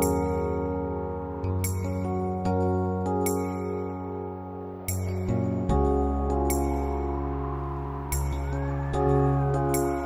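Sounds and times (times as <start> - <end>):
background music with held chords: 0.0 - 10.0.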